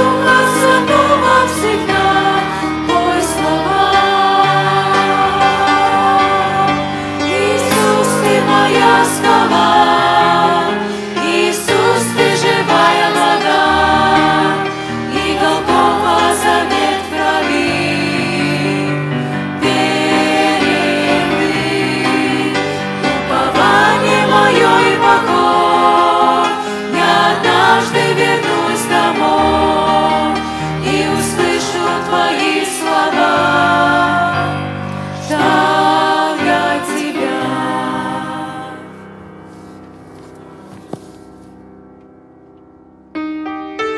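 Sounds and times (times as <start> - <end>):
group singing a hymn: 0.0 - 39.8.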